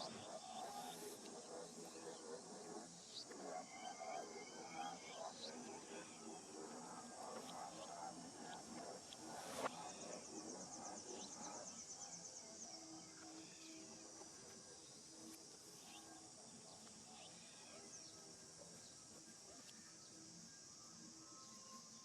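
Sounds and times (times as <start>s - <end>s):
insect drone: 0.0s - 22.0s
rapid pulsed insect trill: 0.0s - 22.0s.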